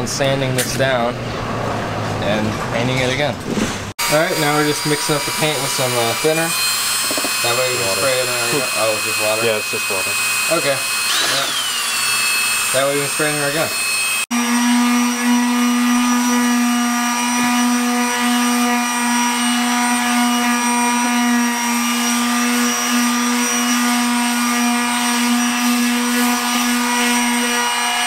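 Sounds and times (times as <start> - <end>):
electric sander humming: 4.0 - 28.0.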